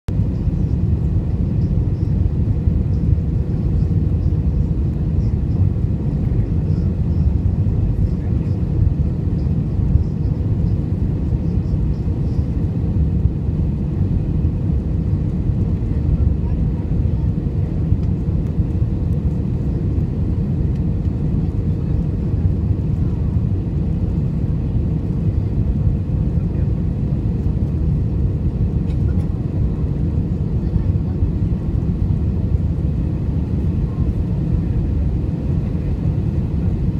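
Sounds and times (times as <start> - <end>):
airliner engines rumbling: 0.1 - 36.9.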